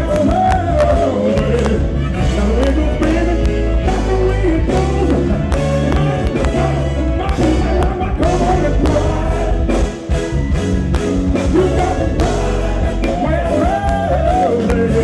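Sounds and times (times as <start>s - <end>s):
heavy bass line: 0.0s - 15.0s
steady drum beat: 0.0s - 15.0s
voices singing: 0.0s - 15.0s.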